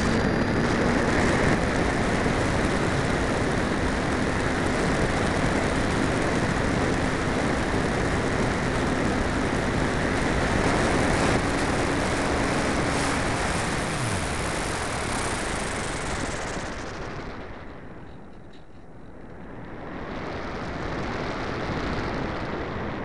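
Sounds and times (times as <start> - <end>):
faint motor and propeller hum: 0.0 - 23.0
wind rush over microphone: 0.0 - 23.0.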